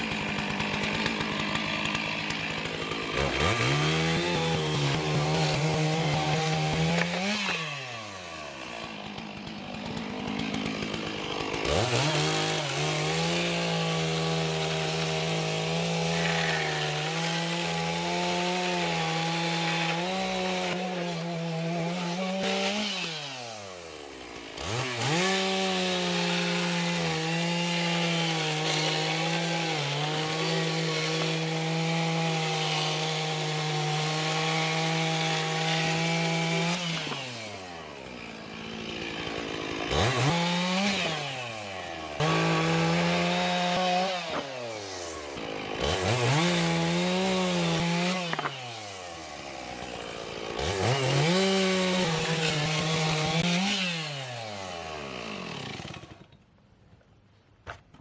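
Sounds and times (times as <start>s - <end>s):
chainsaw cutting wood: 0.0s - 56.7s.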